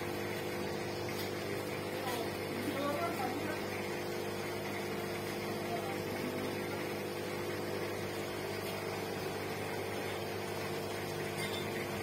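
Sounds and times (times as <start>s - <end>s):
low electric hum: 0.0s - 12.0s.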